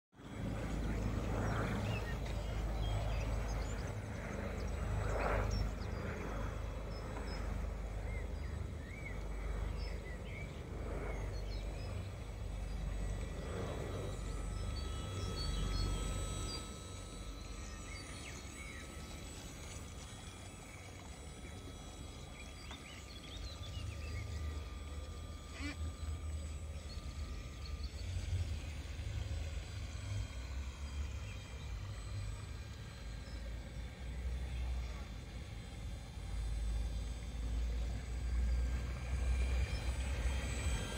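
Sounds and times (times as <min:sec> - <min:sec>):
model boat high whine: 0:00.1 - 0:40.9
small birds chirping: 0:00.4 - 0:40.9.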